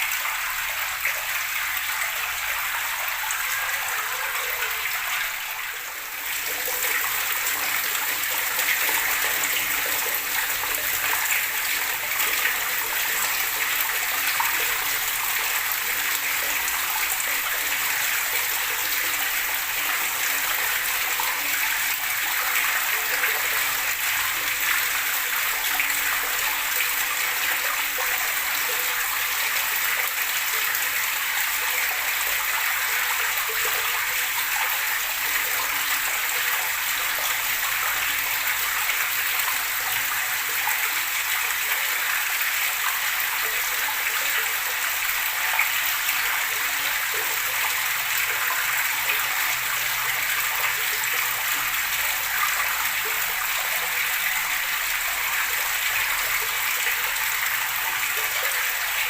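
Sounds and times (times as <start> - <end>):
running water gurgling: 0.0 - 59.0.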